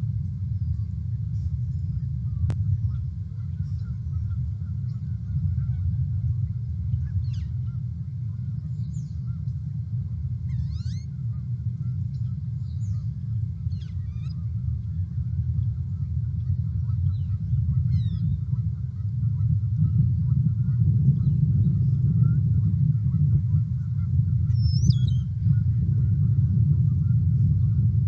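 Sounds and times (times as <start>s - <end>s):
steady low rumble: 0.0s - 28.0s
distant bird calls: 0.6s - 22.4s, 23.4s - 26.1s.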